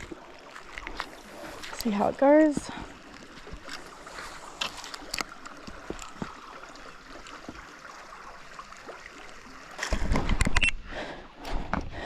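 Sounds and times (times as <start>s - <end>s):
small clicks and splashes: 0.0s - 10.8s
creek water running: 0.0s - 12.0s.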